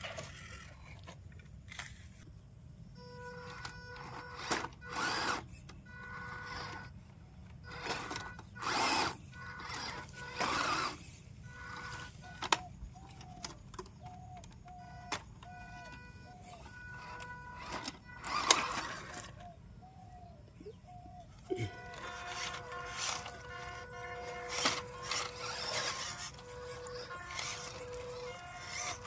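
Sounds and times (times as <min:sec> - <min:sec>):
wheels over rough ground: 0:00.0 - 0:02.4, 0:03.0 - 0:29.0
toy car electric motor whining: 0:03.0 - 0:20.2, 0:21.3 - 0:29.0.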